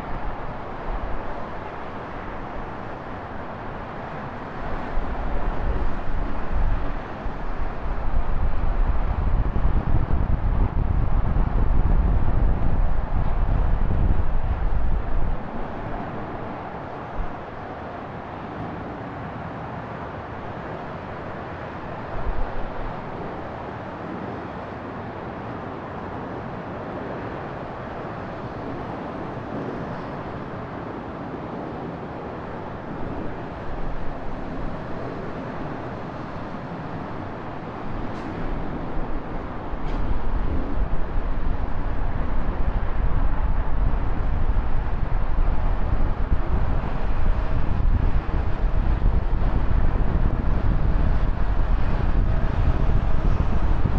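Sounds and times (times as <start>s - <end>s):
wind buffeting microphone: 0.0s - 25.4s, 26.2s - 53.9s
street traffic: 0.0s - 53.9s.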